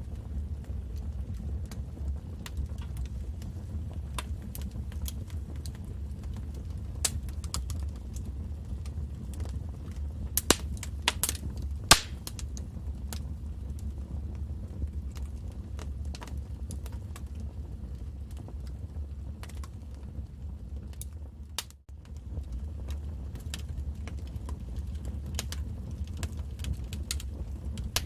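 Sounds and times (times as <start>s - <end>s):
fire crackling and popping: 0.0s - 28.0s
low rumble of flame: 0.0s - 28.0s.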